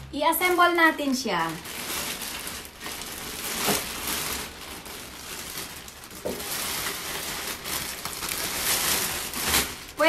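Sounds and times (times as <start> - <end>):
plastic wrapping rustling: 0.0 - 10.0.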